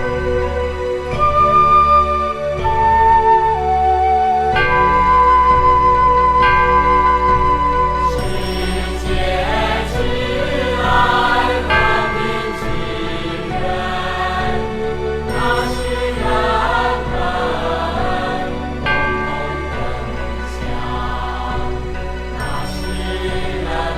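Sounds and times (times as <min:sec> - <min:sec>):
steady musical accompaniment: 0:00.0 - 0:23.9
voices singing slow song: 0:02.3 - 0:23.9.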